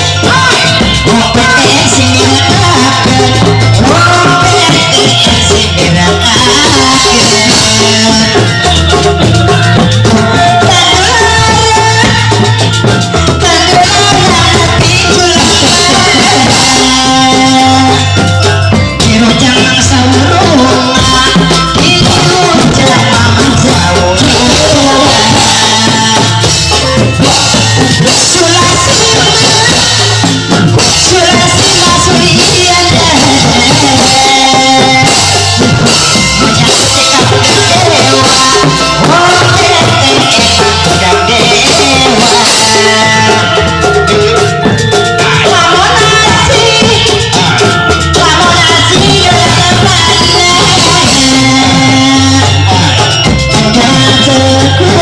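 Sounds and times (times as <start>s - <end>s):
drums: 0.0s - 55.0s
loud music with singing: 0.0s - 55.0s.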